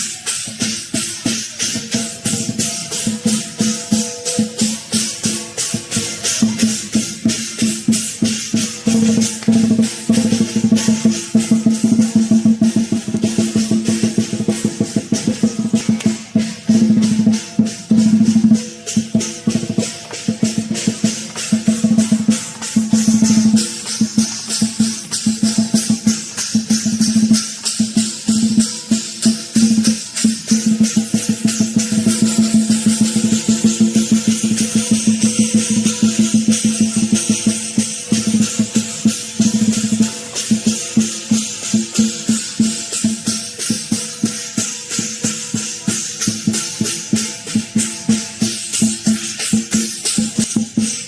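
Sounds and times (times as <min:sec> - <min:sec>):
cymbals clashing: 0:00.0 - 0:51.0
drum beaten in fast rolls: 0:00.0 - 0:51.0.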